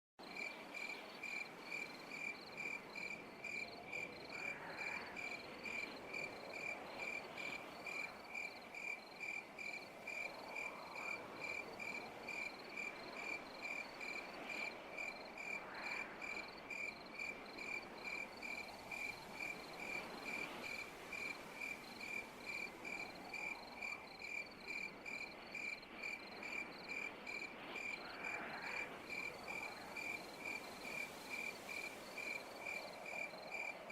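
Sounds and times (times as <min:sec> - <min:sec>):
cricket chirping: 0:00.2 - 0:33.9
faint hiss: 0:00.2 - 0:33.9.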